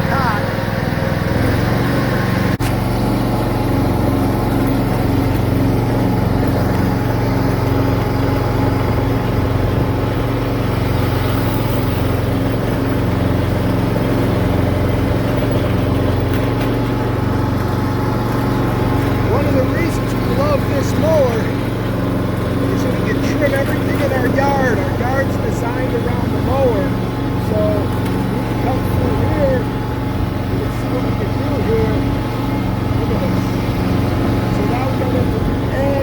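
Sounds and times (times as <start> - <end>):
mower engine running: 0.0 - 36.0.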